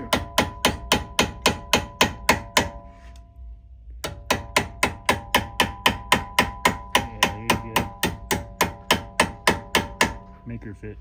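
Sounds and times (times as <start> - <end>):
hammer tapping on metal: 0.0 - 2.8, 4.0 - 10.4.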